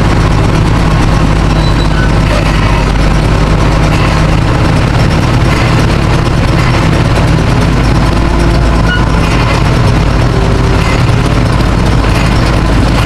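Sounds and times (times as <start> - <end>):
diesel engine droning under load: 0.0 - 13.0.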